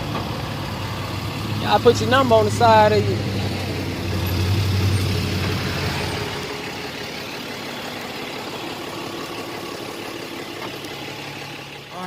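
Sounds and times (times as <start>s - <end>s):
heavy low rumble: 0.0s - 12.0s
vehicle engine idling: 0.0s - 12.0s.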